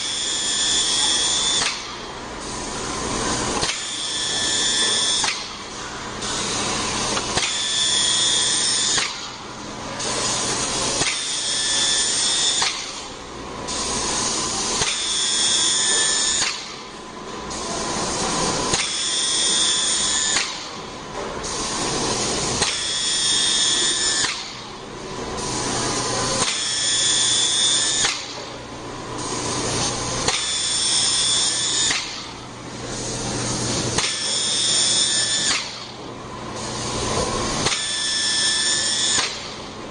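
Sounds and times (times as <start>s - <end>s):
power tool whirring high-pitched: 0.0s - 9.4s, 10.0s - 16.8s, 17.5s - 24.7s, 25.4s - 28.5s, 29.2s - 36.0s, 36.6s - 39.6s.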